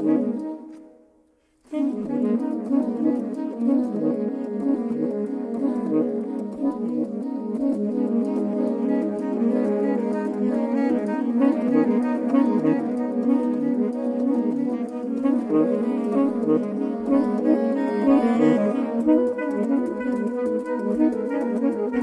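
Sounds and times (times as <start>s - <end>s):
saxophone quartet playing: 0.0s - 0.9s, 1.7s - 22.0s.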